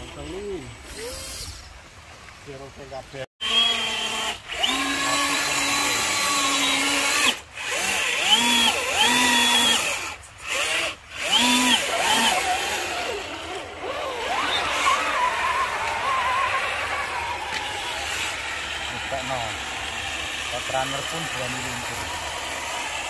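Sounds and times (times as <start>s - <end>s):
electric motor whining: 3.4s - 23.0s.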